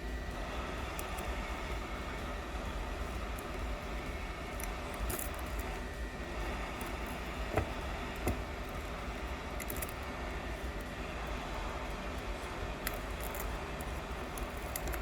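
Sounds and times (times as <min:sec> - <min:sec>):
fan blowing: 0:00.0 - 0:15.0.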